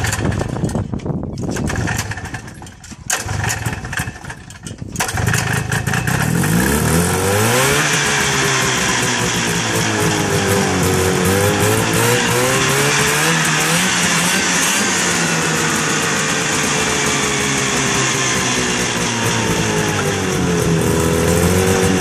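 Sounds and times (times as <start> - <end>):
snowmobile two-stroke engine running: 0.0 - 0.8, 1.5 - 22.0.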